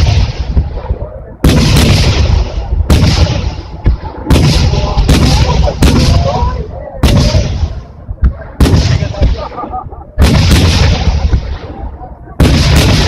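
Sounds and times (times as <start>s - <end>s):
firework shells booming: 0.0s - 13.0s.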